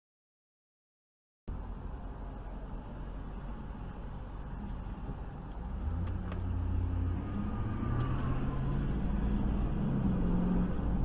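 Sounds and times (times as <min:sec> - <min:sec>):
car engine and road noise: 0:01.5 - 0:11.0.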